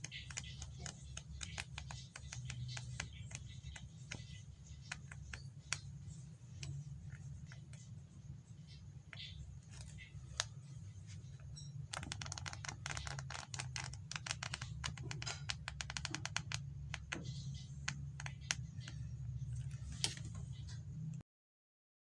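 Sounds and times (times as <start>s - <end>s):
low steady hum: 0.0s - 21.2s.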